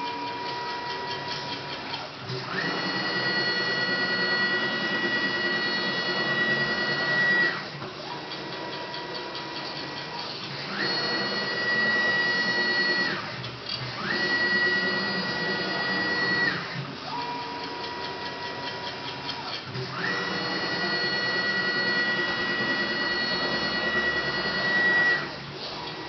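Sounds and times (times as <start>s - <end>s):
milling machine motors whining: 0.0s - 26.0s.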